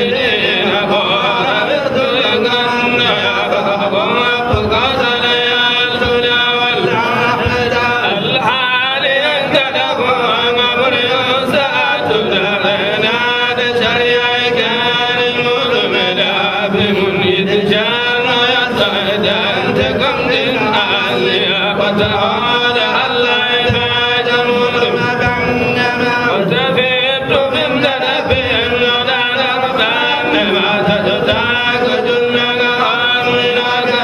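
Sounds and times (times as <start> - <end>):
men chanting into microphones: 0.0 - 34.0.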